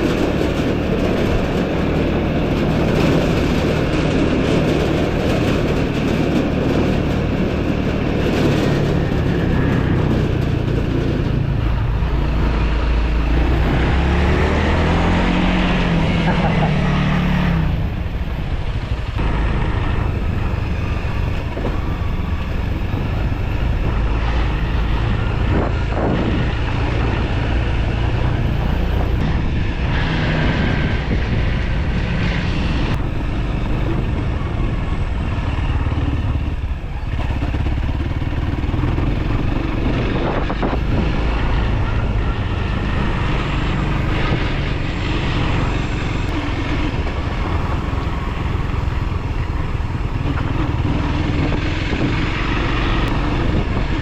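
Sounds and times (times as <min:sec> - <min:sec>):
motorcycle engine rumble: 0:00.0 - 0:54.0
road noise: 0:00.0 - 0:54.0.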